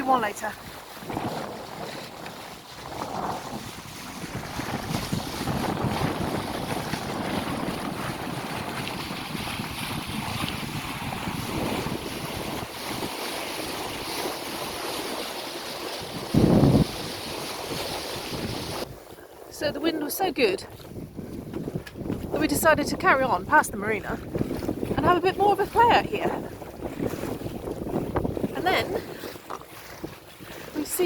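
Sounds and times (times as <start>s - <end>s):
wind buffeting microphone: 0.0s - 15.0s, 15.9s - 31.0s
water rushing past boat: 0.0s - 31.0s.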